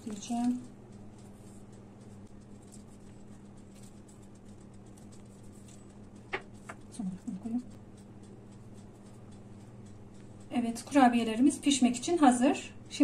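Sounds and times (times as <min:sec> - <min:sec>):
low steady hum: 0:00.0 - 0:13.0
seeds sprinkled on dough: 0:00.0 - 0:13.0.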